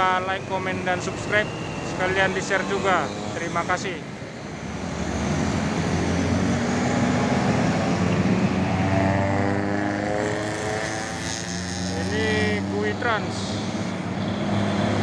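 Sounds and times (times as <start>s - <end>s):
diesel engines of trucks and buses: 0.0s - 15.0s.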